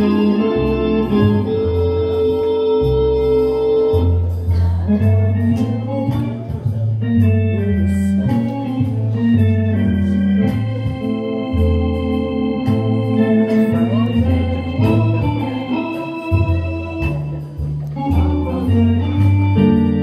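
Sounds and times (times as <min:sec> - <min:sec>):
hammond organ playing chords: 0:00.0 - 0:20.0.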